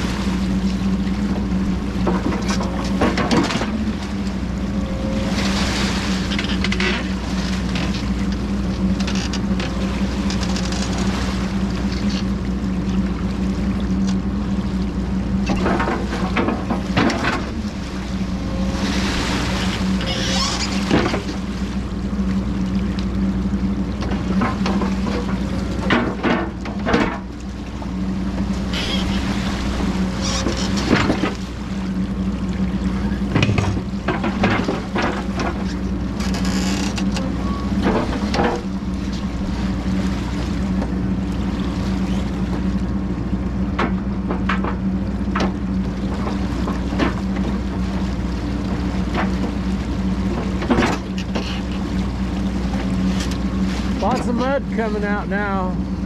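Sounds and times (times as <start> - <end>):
diesel engine running steadily: 0.0 - 56.0
rushing splashing water: 0.0 - 56.0.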